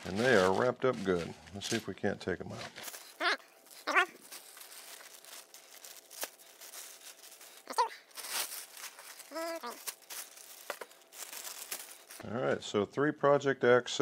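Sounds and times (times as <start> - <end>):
packing wrap rustling and tearing: 0.0 - 12.2.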